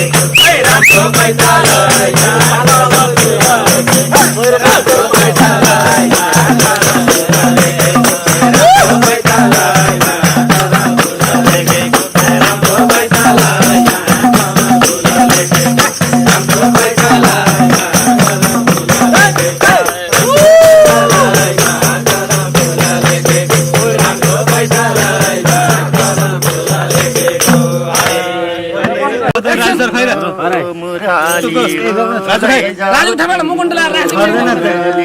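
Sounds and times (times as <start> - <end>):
tambourine jingle beat: 0.0 - 28.3.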